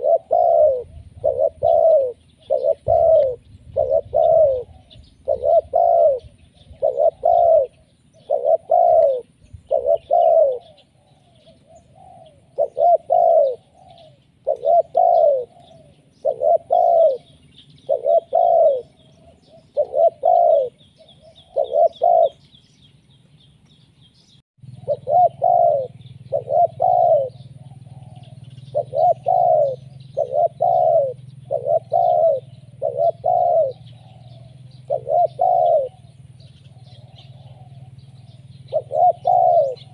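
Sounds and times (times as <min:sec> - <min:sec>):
dove cooing: 0:00.0 - 0:22.6, 0:24.6 - 0:39.9.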